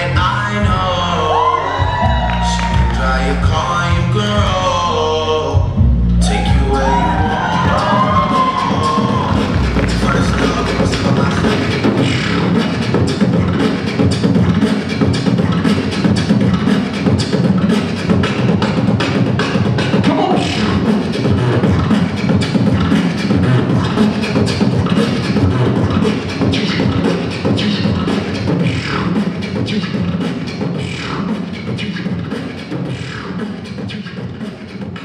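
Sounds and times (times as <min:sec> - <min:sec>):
beatboxing into microphone: 0:00.0 - 0:35.0.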